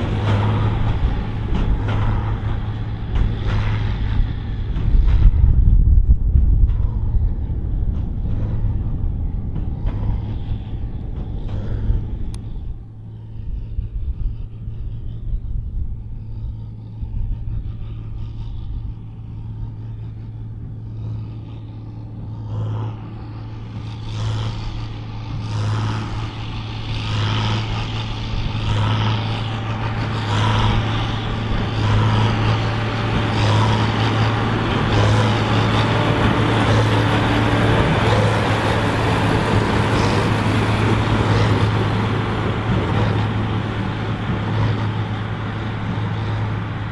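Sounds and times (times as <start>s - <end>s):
diesel tractor running under load: 0.0s - 46.9s.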